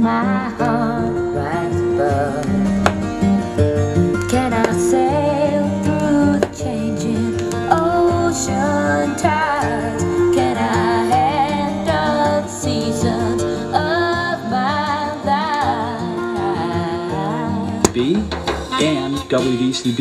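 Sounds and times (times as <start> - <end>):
woman singing with vibrato: 0.0 - 2.8, 4.3 - 17.9
acoustic guitar: 0.0 - 20.0.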